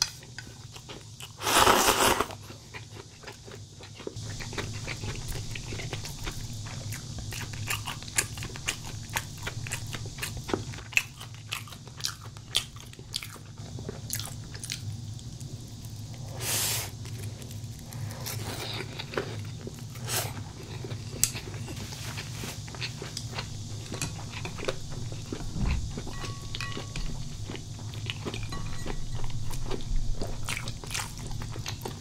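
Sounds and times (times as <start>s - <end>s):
crisp crunches of chewing: 0.2s - 32.0s.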